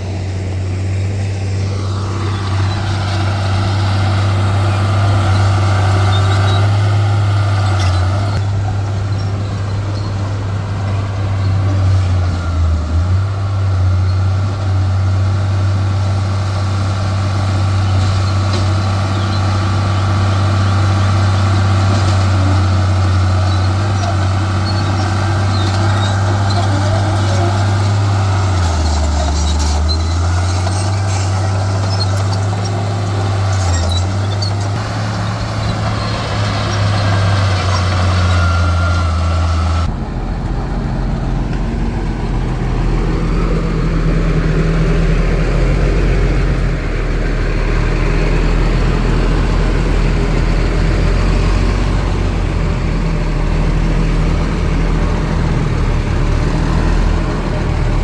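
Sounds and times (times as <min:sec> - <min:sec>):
deeper engine running: 0:00.0 - 0:58.0
heavy diesel engines running: 0:00.0 - 0:58.0.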